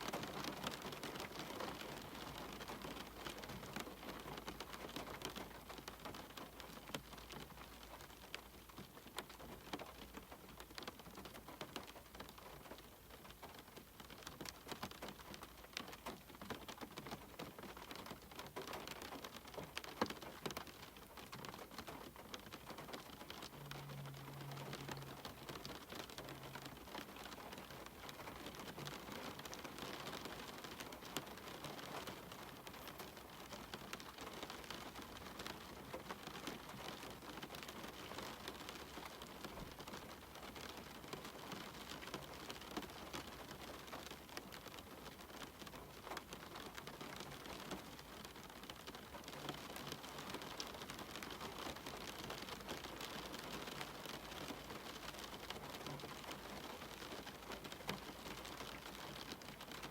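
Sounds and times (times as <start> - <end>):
rain falling: 0.0 - 59.9
raindrops tapping on a surface: 0.0 - 59.9.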